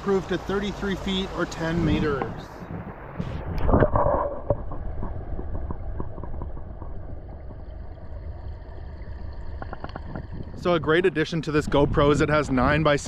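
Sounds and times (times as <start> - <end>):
water splashing: 0.0 - 13.0
muffled underwater rumble and bubbling: 1.5 - 13.0.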